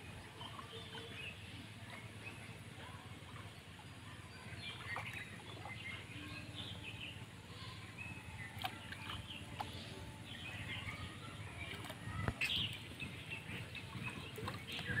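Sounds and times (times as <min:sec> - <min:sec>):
birds chirping and calling: 0:00.1 - 0:15.0.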